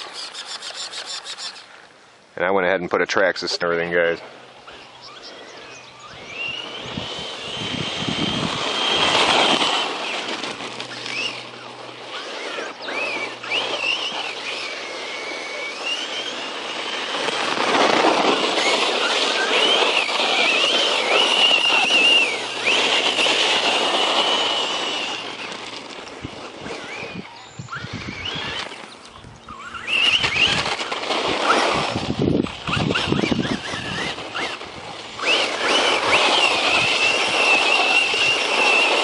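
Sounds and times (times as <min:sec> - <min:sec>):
electric motor whining: 0:00.0 - 0:01.9, 0:03.6 - 0:39.0.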